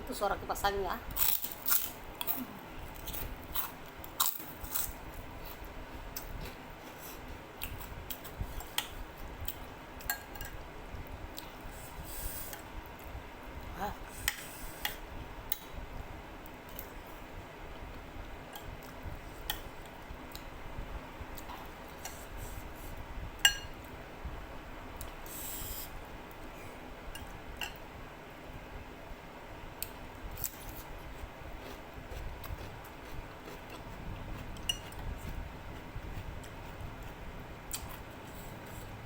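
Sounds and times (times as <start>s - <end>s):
electric fan humming: 0.0s - 39.0s.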